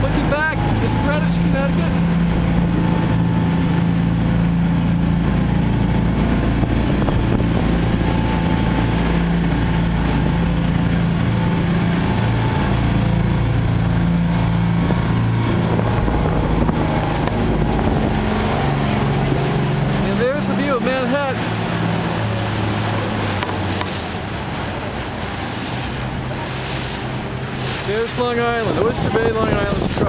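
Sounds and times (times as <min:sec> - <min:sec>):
ferry engine droning: 0:00.0 - 0:30.0
wind and water rushing: 0:00.0 - 0:30.0.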